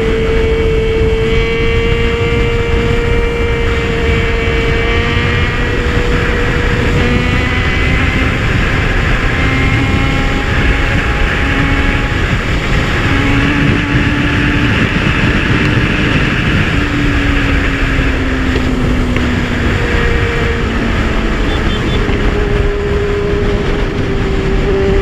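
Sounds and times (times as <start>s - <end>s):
motorcycle engine cruising: 0.0s - 25.0s
wind rush on microphone: 0.0s - 25.0s.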